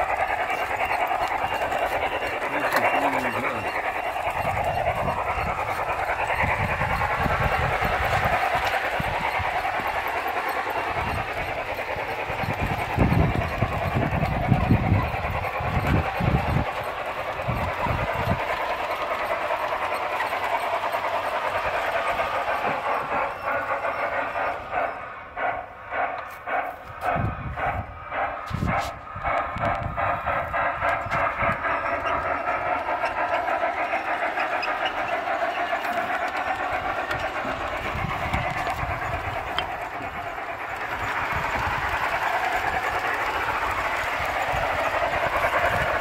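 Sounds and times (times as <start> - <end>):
model train running on track: 0.0 - 46.0.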